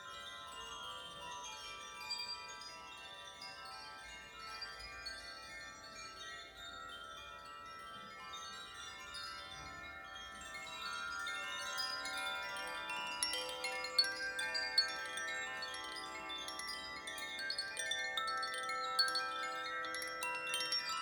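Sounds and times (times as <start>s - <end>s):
chimes ringing: 2.5s - 21.0s.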